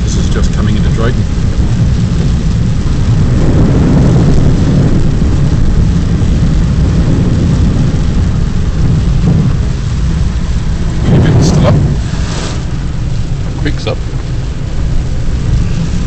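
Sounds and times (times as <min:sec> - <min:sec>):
car road noise: 0:00.0 - 0:16.0
rain hiss: 0:00.0 - 0:16.0.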